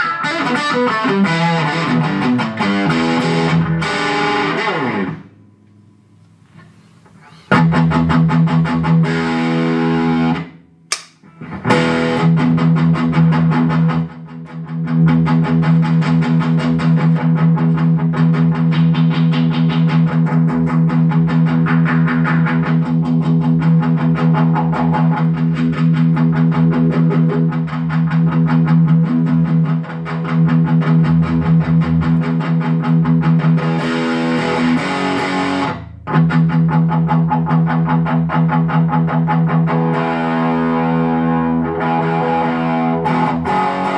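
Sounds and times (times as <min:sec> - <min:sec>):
overdriven electric guitar riff: 0:00.0 - 0:43.9.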